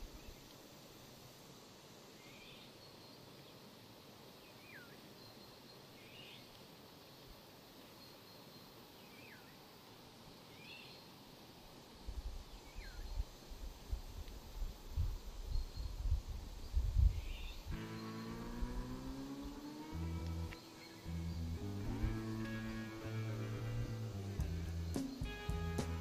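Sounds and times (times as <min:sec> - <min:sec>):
quiet outdoor hiss: 0:00.0 - 0:26.0.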